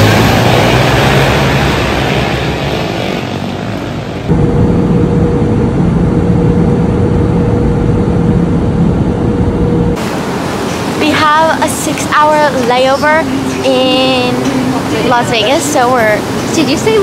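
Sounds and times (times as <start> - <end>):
rumbling noise: 0.0 - 16.8
airliner cabin drone: 0.0 - 17.0.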